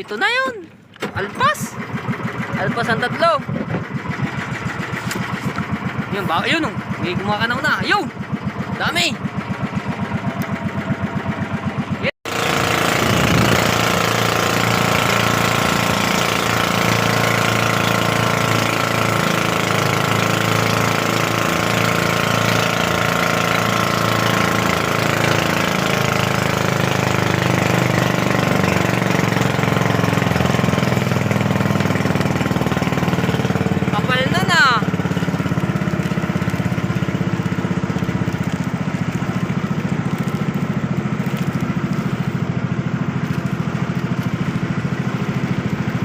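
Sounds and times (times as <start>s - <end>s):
small boat engine running: 0.0s - 46.0s.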